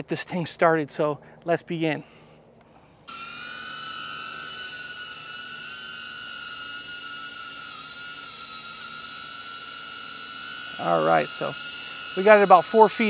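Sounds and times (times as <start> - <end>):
drone motors whining: 2.5 - 13.0.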